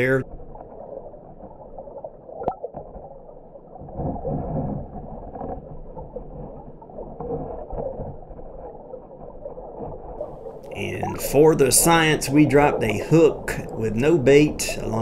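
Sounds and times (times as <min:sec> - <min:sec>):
muffled creek water underwater: 0:00.0 - 0:15.0.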